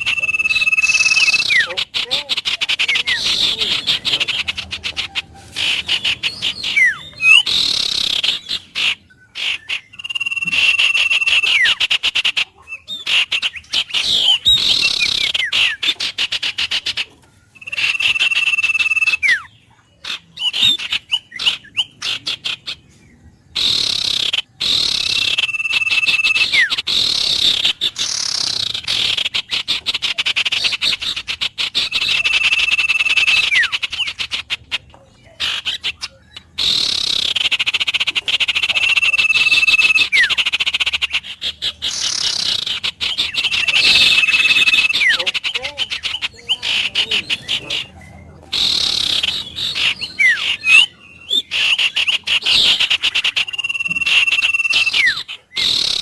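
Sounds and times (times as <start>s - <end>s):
birds whistling: 0.0s - 56.0s
rapid bird chirping: 0.0s - 56.0s.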